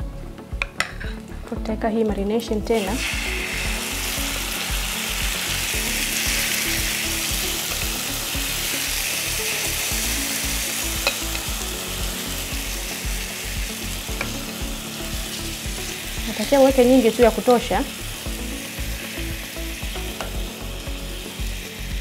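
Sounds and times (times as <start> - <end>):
chicken frying in hot oil: 2.7 - 22.0.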